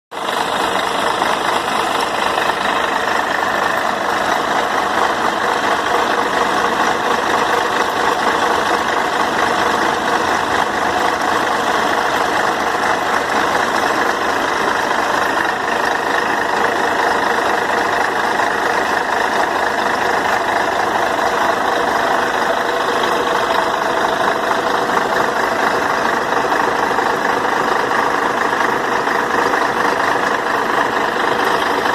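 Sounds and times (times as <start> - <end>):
diesel coach engine idling: 0.1 - 31.9.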